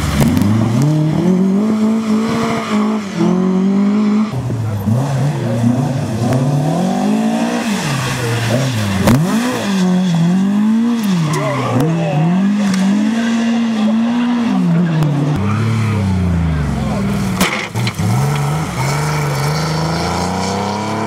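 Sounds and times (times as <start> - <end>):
rally car engine revving hard: 0.0 - 21.0.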